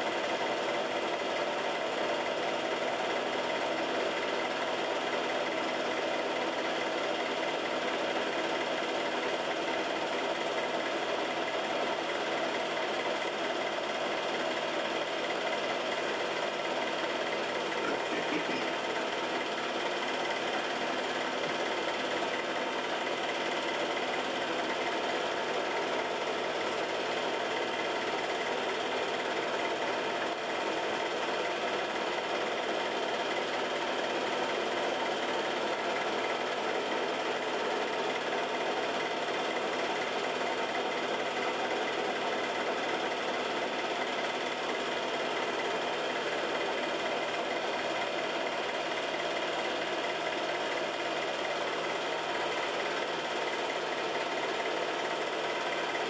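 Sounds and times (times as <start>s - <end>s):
film projector whirr and clatter: 0.0s - 56.0s.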